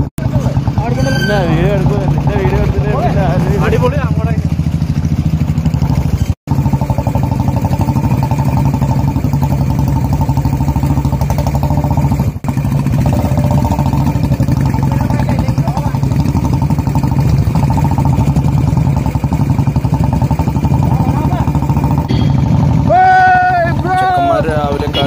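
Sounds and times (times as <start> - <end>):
motorcycle engines on dirt trail: 0.0 - 25.0.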